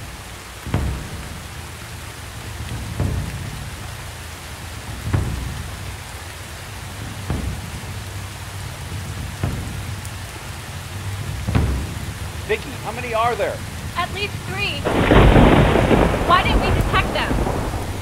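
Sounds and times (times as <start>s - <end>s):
deep low booms: 0.0s - 18.0s
steady rain falling: 0.0s - 18.0s.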